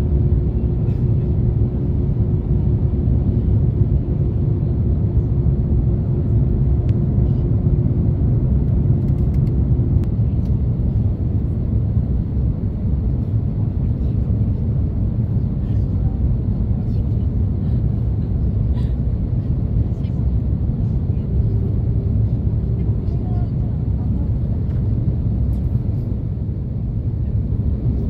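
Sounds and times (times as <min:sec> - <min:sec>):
aircraft cabin roar: 0:00.0 - 0:28.0.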